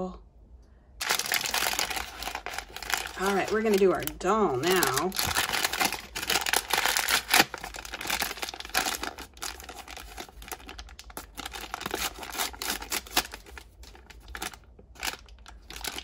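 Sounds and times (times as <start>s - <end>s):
plastic packaging crinkling: 1.0s - 16.0s.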